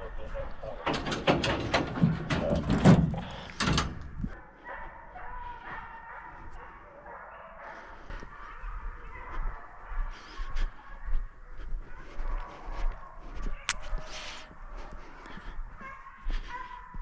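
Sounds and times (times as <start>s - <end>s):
hounds barking and baying: 0.0s - 17.0s.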